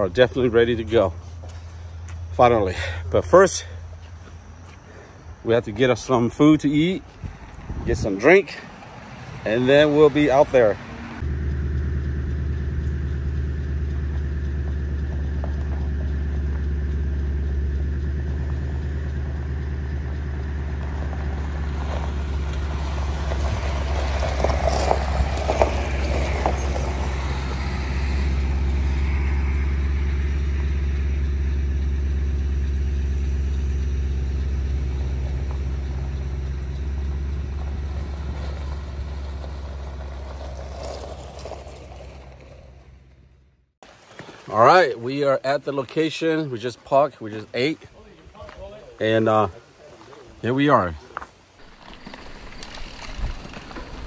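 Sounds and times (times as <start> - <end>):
truck engine and road hum: 0.0 - 54.0.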